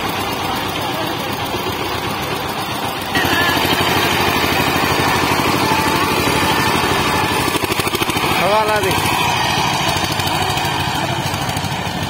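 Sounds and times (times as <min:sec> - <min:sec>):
diesel engine chugging: 0:00.0 - 0:12.0.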